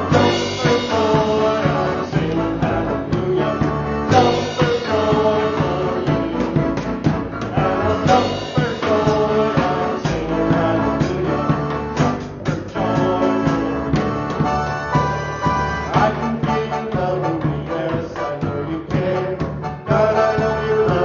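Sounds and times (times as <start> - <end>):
drums: 0.0 - 21.0
people singing: 0.0 - 21.0
worship band playing: 0.0 - 21.0.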